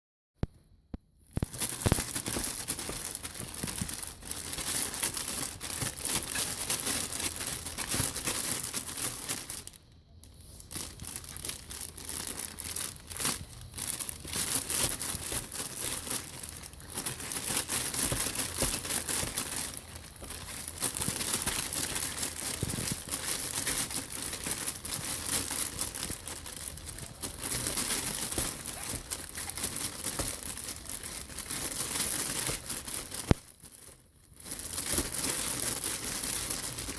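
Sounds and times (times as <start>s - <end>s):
material crinkling and crumpling: 1.2s - 36.9s.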